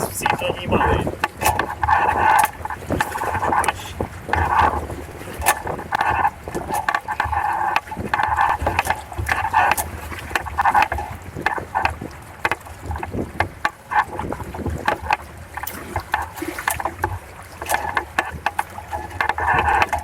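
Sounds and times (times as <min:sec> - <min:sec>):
water splashing against boat hulls: 0:00.0 - 0:20.0
wind rumble on microphone: 0:00.0 - 0:20.0.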